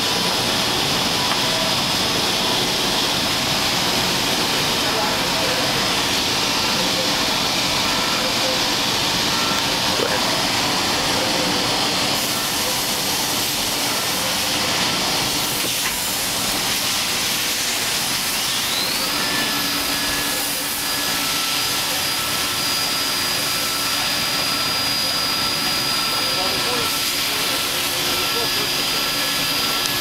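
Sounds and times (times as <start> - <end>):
machining center hissing: 0.0 - 30.0
spindle whine rising: 0.0 - 30.0.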